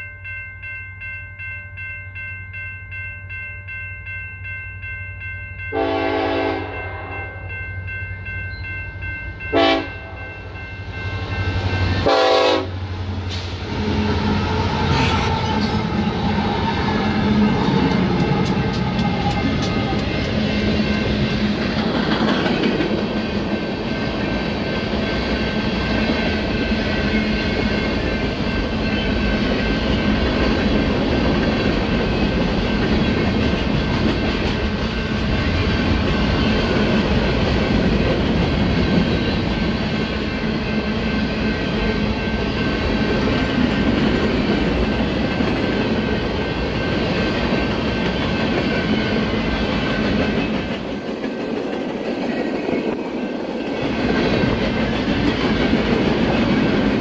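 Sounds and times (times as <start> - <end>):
steel wheels running on rail: 5.5 - 57.0.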